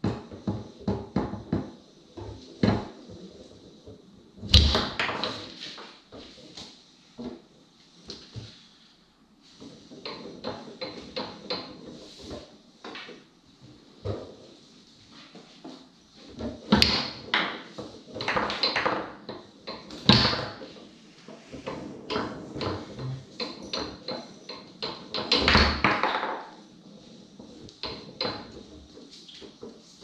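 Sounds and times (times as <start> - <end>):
foosball ball clacks and knocks: 0.0 - 7.5, 9.5 - 30.0.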